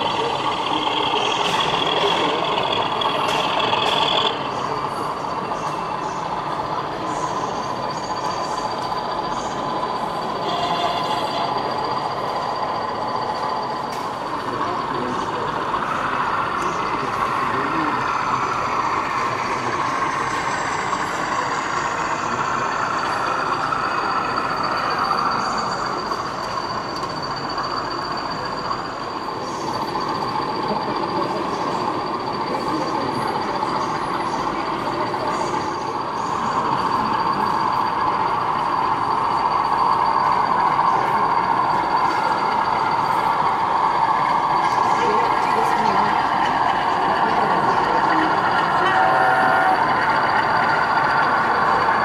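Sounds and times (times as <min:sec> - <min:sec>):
model locomotive engine sound: 0:00.0 - 0:52.0
thin high whine: 0:00.0 - 0:52.0.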